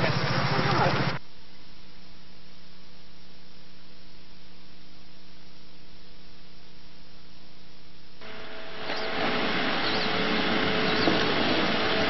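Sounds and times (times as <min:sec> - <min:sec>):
low electrical hum: 0:01.1 - 0:12.0
steady hiss: 0:01.1 - 0:12.0.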